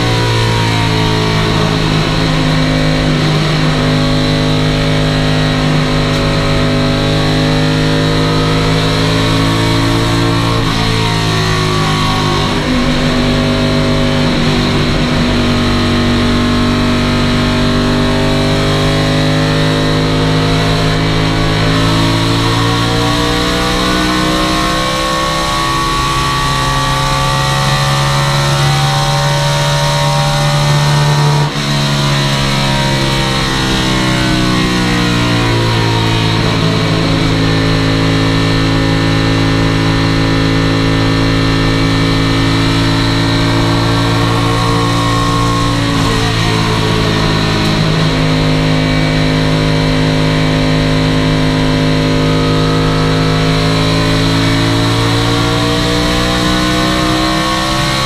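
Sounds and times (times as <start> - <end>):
race car engine from inside cockpit: 0.0 - 58.0.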